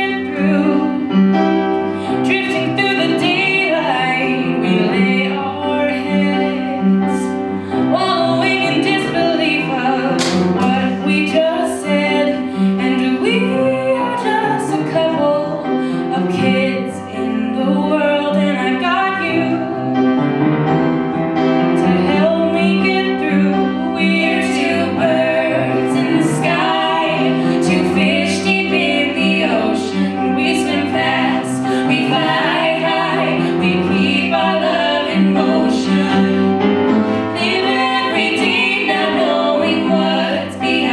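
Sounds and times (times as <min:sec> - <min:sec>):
two singers singing together: 0:00.0 - 0:01.1, 0:02.1 - 0:20.0, 0:21.8 - 0:40.9.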